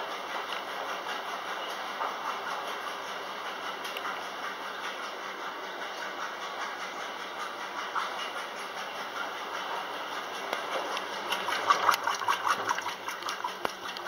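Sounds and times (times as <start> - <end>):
washing machines humming: 0.0 - 14.0.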